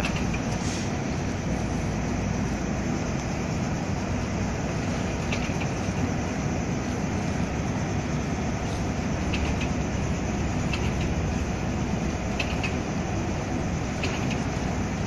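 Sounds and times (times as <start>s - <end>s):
ship engine rumble: 0.0s - 15.0s.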